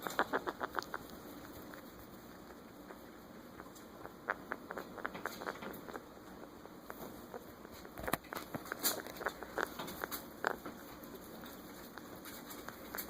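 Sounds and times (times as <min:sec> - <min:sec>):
rat rattly breathing: 0:00.0 - 0:13.0.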